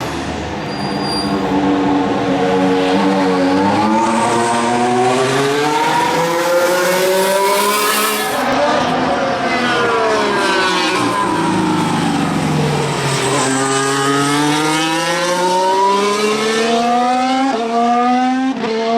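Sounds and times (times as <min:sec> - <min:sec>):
racing car engine accelerating: 0:01.6 - 0:18.9.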